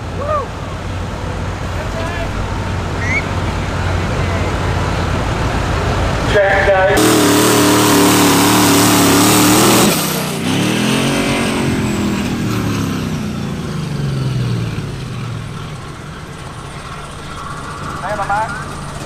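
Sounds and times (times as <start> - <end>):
engine winding down: 0.0 - 19.0
truck engine running under load: 0.0 - 19.0.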